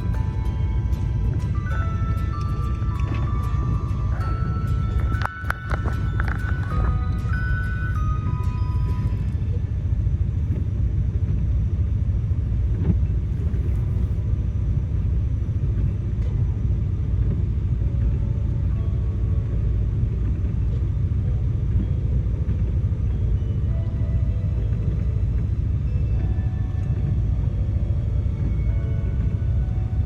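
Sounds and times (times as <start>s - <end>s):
car interior road rumble: 0.0s - 30.0s.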